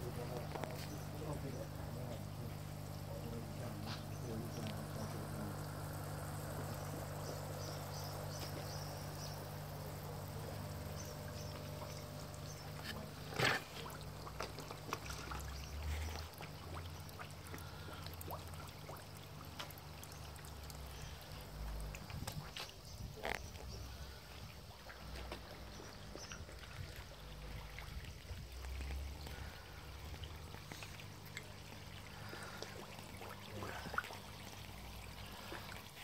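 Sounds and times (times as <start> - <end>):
steady low hum: 0.0 - 36.0
water trickling into pond: 0.0 - 36.0.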